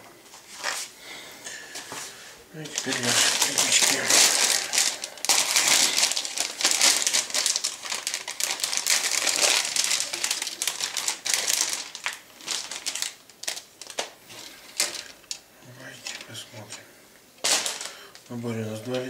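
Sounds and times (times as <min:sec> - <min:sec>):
plastic bag crinkling: 0:01.9 - 0:16.8, 0:17.4 - 0:19.0.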